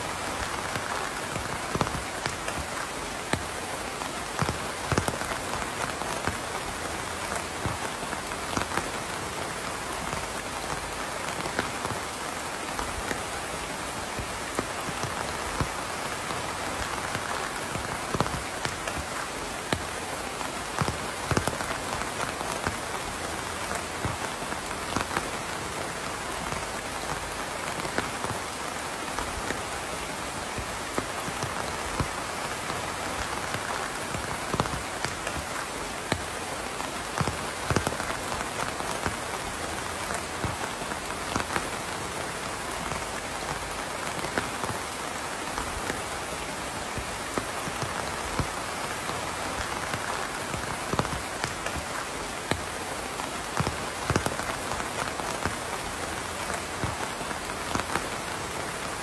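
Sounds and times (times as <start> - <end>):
rain falling: 0.0 - 59.0
raindrops pattering on a surface: 0.0 - 59.0.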